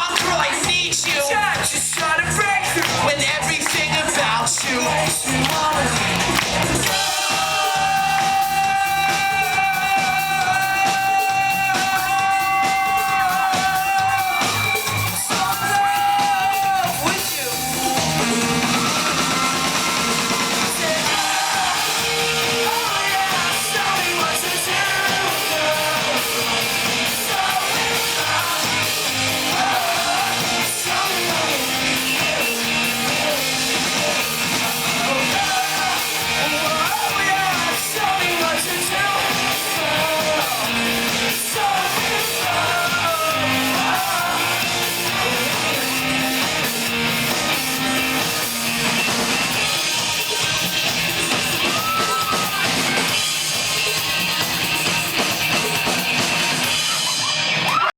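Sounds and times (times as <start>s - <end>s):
person singing: 0.0s - 48.8s
pop-rock band playing live: 0.0s - 57.9s.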